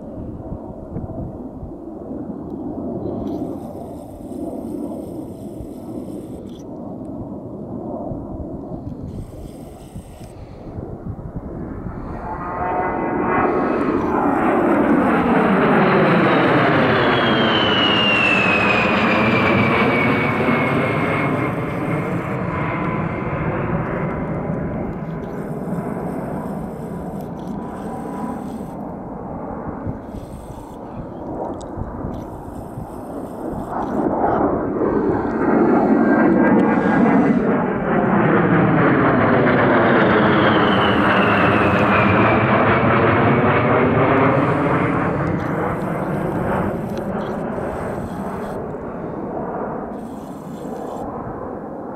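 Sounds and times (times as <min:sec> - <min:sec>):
jet aircraft passing overhead: 0:00.0 - 0:51.9.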